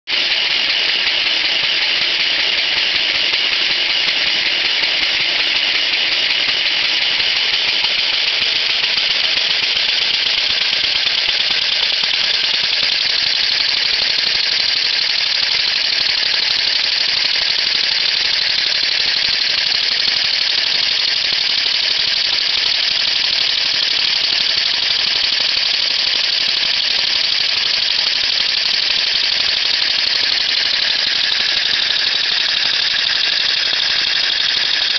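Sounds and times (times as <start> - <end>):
engine flywheel rattling: 0.1 - 34.9.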